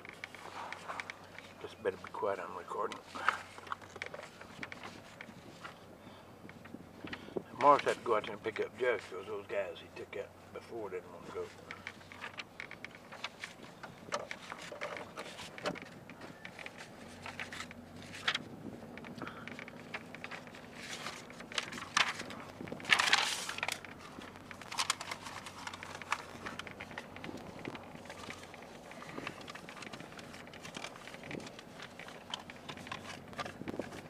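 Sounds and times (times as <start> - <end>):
faint low motor hum: 0.0 - 34.0
vehicle clicks and rattles: 0.0 - 34.0.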